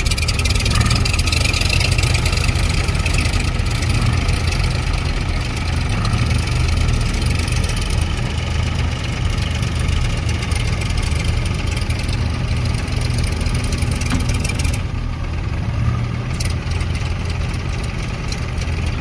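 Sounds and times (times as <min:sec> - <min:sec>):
heavy diesel engine humming: 0:00.0 - 0:19.0.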